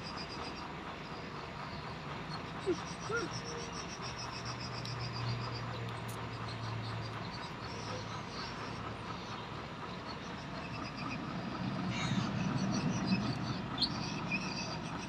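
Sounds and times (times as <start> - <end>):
insects chirping in pulsed trills: 0.0 - 15.0.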